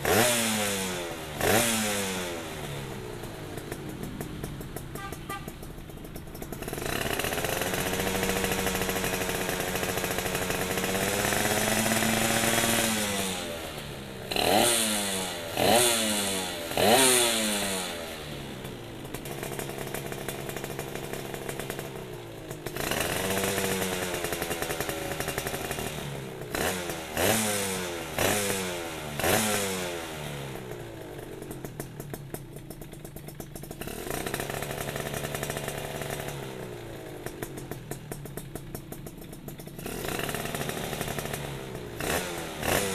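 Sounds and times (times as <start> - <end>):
two-stroke engine revving: 0.0 - 42.9.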